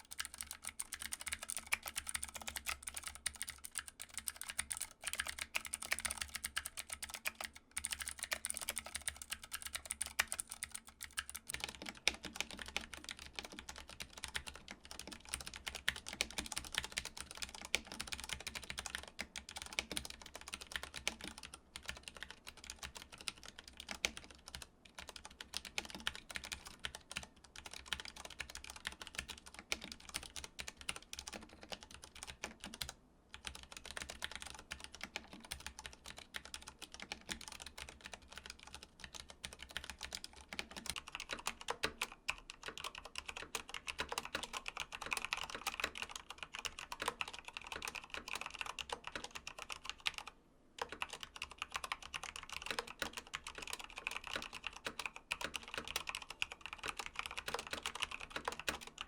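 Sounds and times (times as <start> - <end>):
typing on mechanical keyboard: 0.0 - 59.0.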